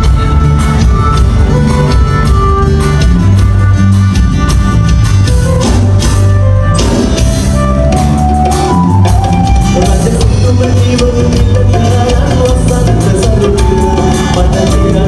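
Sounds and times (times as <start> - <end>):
drum strikes: 0.0 - 15.0
live band playing: 0.0 - 15.0.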